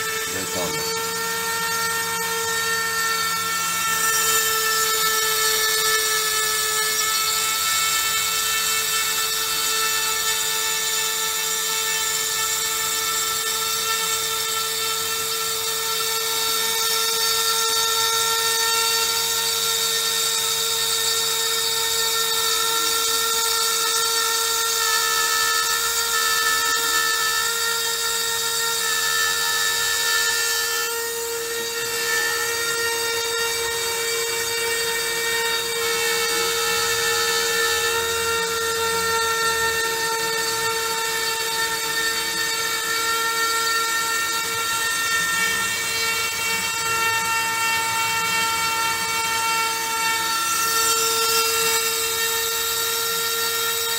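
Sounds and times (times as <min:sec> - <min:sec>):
router spindle high whine: 0:00.0 - 0:53.9.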